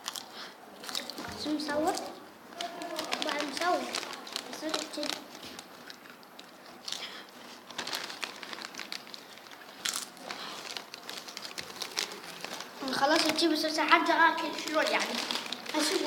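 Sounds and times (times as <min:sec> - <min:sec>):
chips crunching: 0:00.0 - 0:13.7, 0:14.4 - 0:16.0
crinkly packet crackling: 0:00.0 - 0:16.0.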